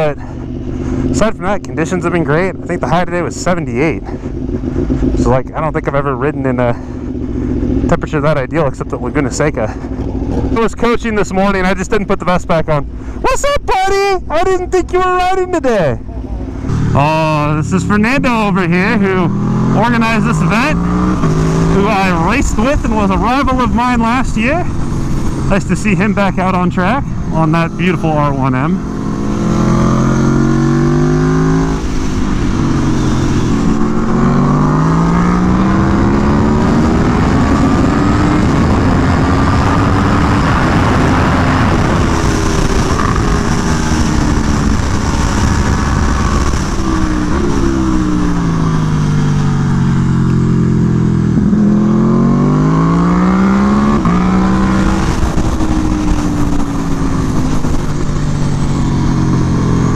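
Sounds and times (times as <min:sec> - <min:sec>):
motorcycle engine revving: 0:00.0 - 0:12.2, 0:15.8 - 0:59.9
rushing wind: 0:00.0 - 0:59.9.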